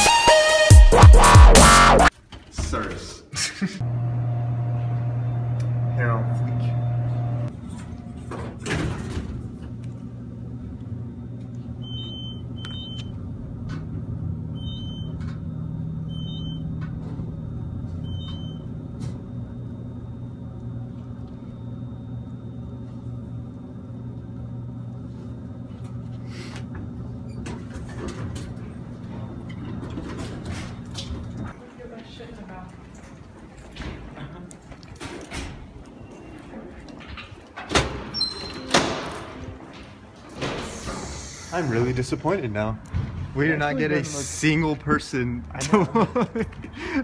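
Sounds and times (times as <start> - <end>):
elevator hum: 3.8 - 47.0.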